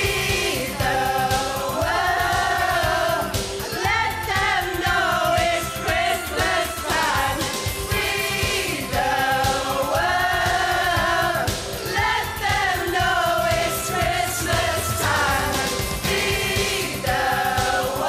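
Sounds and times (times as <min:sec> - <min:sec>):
pop backing track: 0:00.0 - 0:18.0
women singing in unison: 0:00.0 - 0:18.0.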